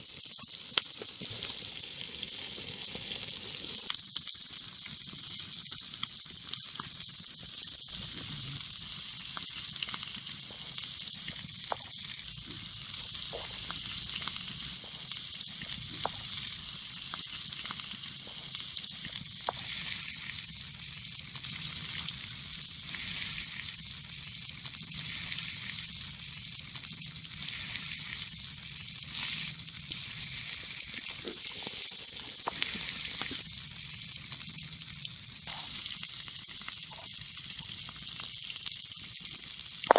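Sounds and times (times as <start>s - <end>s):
meat sizzling on hot metal: 0.0s - 39.9s
pops and crackles: 0.1s - 39.9s.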